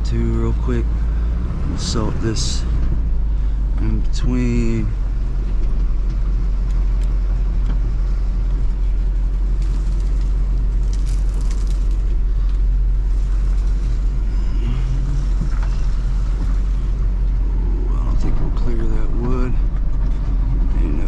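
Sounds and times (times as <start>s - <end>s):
truck engine low rumble: 0.0s - 21.0s.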